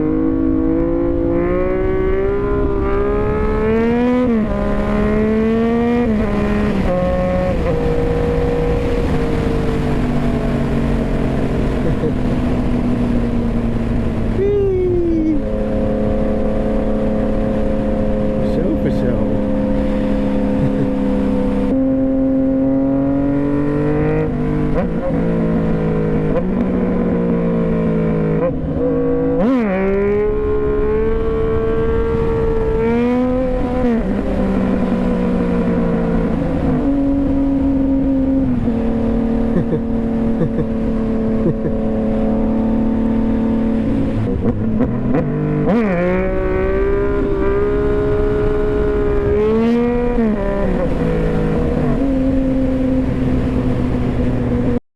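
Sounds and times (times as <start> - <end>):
motorcycle engine: 0.0 - 54.8
wind and road noise: 0.0 - 54.8.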